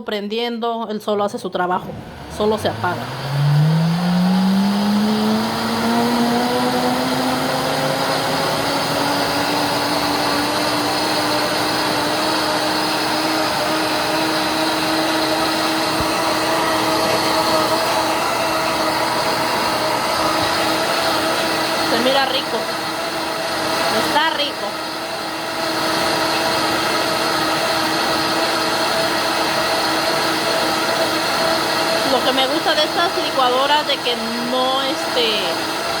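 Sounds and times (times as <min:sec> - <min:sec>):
blender motor whining: 0:01.8 - 0:36.0.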